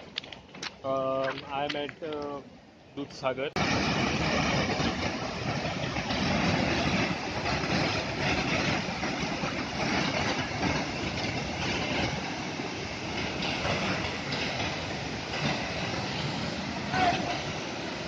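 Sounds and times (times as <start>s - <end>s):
waterfall roaring: 3.0s - 18.0s.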